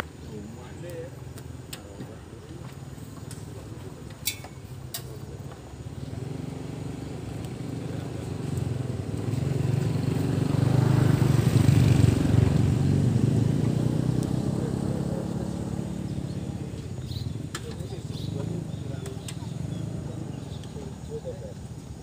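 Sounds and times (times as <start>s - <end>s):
engine rumbling low: 0.0s - 22.0s.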